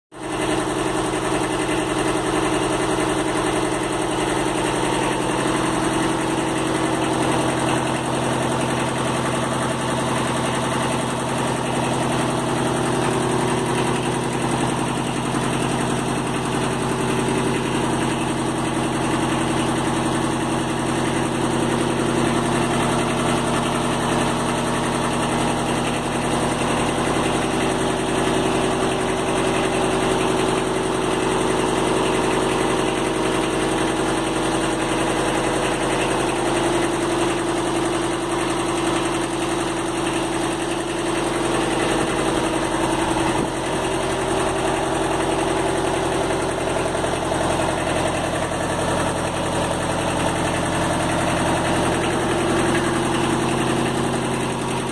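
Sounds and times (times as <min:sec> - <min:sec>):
tractor diesel engine idling: 0:00.2 - 0:54.9.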